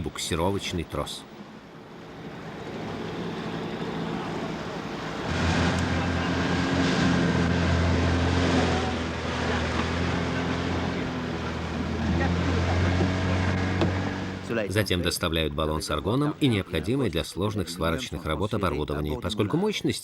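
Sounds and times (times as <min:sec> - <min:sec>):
boat engine drone: 0:00.0 - 0:18.0
sea noise: 0:00.0 - 0:20.0
wind: 0:00.0 - 0:20.0.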